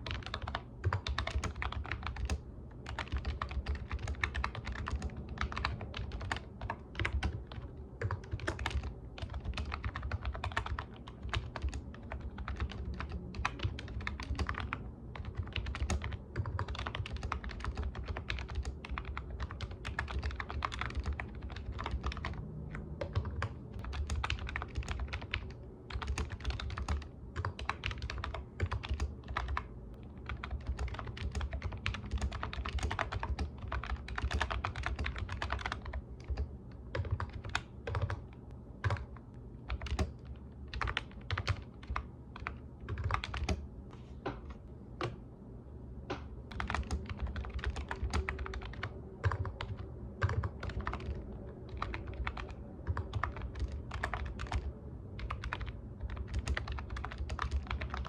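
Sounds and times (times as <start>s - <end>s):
typing on a keyboard: 0.0s - 43.6s, 46.5s - 58.0s
low steady hum: 0.0s - 58.0s.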